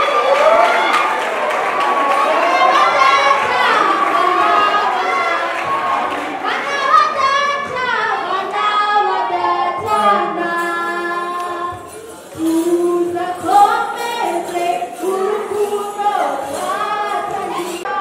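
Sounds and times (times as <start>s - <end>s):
group singing traditional song: 1.3s - 18.0s.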